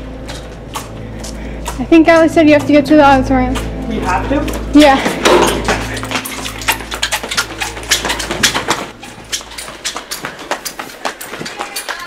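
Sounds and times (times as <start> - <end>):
running footsteps on hard floor: 0.0 - 12.0.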